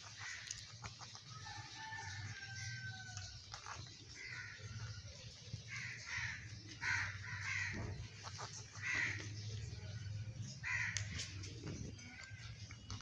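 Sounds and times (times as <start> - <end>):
parakeets squawking: 0.0 - 11.4.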